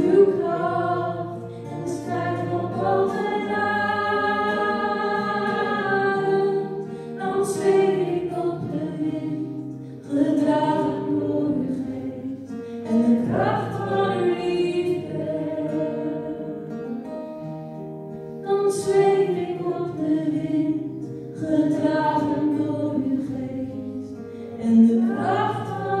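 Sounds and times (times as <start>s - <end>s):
choir singing a hymn: 0.0s - 17.0s, 18.4s - 26.0s.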